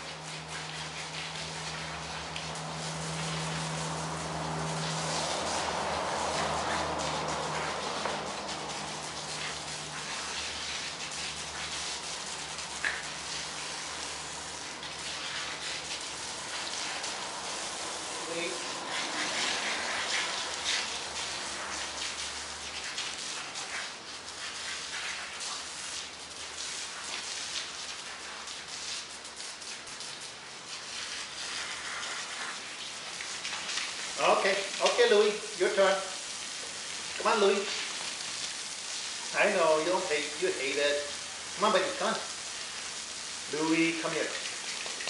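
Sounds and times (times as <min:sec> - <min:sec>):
hose spraying water: 0:00.0 - 0:45.0
water splashing on asphalt: 0:00.0 - 0:45.0.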